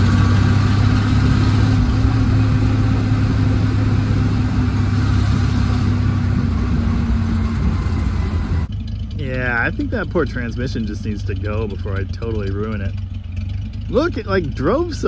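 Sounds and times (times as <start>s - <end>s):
road and cab rattle: 0.0s - 15.0s
truck engine pulling: 0.0s - 15.0s.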